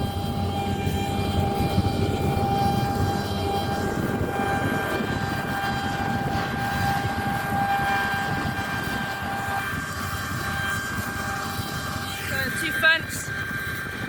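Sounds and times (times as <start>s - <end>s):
combine harvester rumble and whine: 0.0s - 14.0s.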